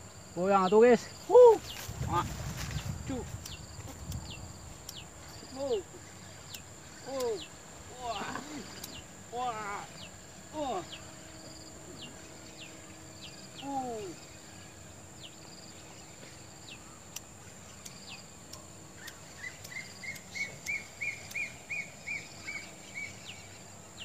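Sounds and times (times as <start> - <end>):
birds chirping: 0.0 - 24.0
high insect drone: 0.0 - 24.0.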